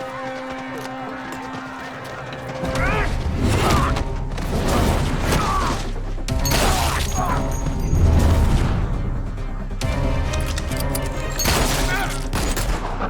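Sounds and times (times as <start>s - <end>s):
dramatic action music: 0.0s - 13.0s.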